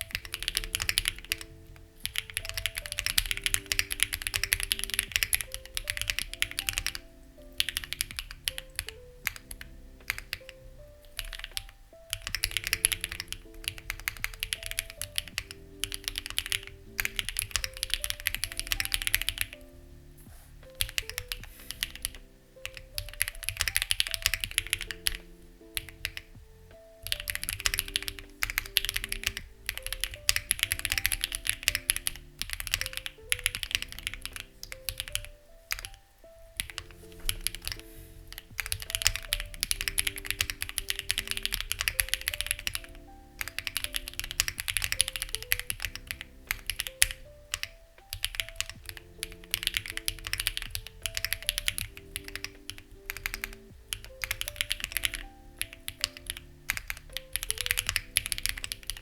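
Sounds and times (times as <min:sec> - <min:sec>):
mechanical keyboard typing: 0:00.0 - 0:19.6, 0:20.6 - 0:59.0
soft background music: 0:00.0 - 0:59.0.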